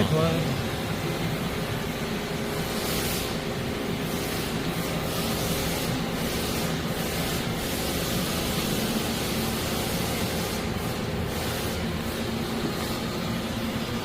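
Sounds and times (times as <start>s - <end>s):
low machine hum: 0.0s - 14.0s
lathe hiss: 1.4s - 14.0s.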